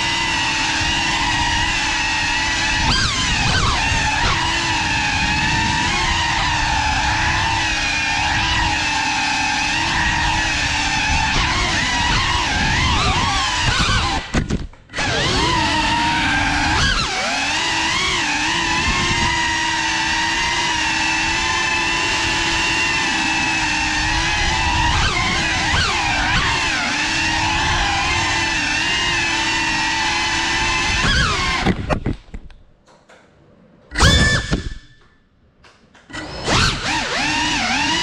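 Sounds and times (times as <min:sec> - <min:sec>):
drone motors whining: 0:00.0 - 0:32.4, 0:33.9 - 0:35.2, 0:36.0 - 0:38.0.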